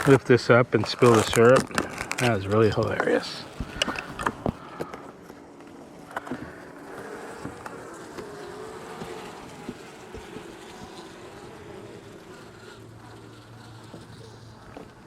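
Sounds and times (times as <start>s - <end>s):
clicks and knocks of hive parts: 0.0s - 15.0s
honeybees humming: 0.0s - 15.0s.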